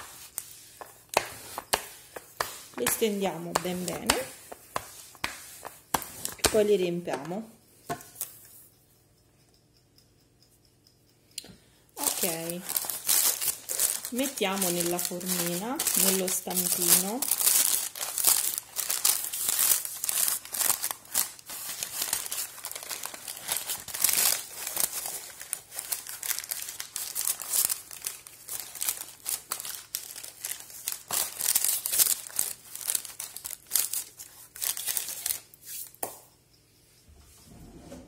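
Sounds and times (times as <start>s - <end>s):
baking paper crinkling: 0.0s - 7.5s, 12.0s - 36.0s.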